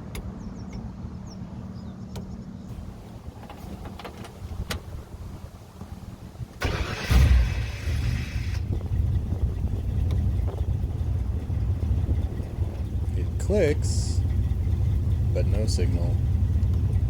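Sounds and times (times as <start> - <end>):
engine cranking and idling: 2.7 - 17.0.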